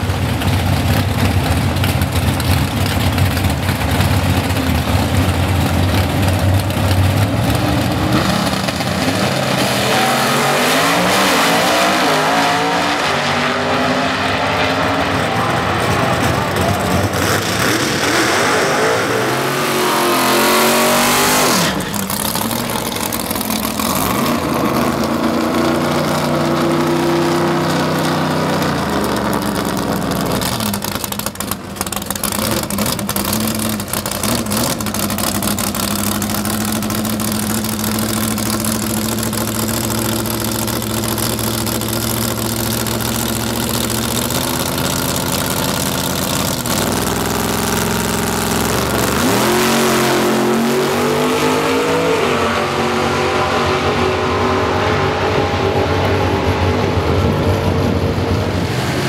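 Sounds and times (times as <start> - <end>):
drag-racing engine accelerating: 0.0 - 59.0
truck engine revving and idling: 0.0 - 59.0.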